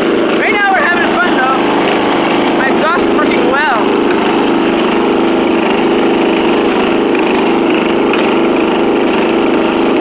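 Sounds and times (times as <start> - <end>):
riding lawn mower engine: 0.0 - 10.0.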